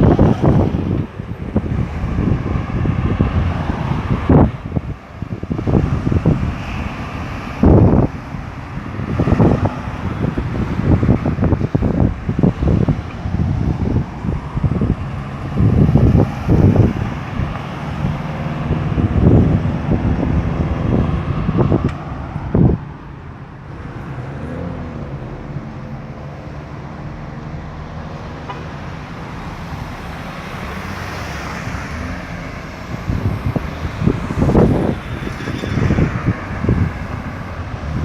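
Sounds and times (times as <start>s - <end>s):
cars passing: 0.0s - 38.0s
steady engine rumble: 0.0s - 38.0s.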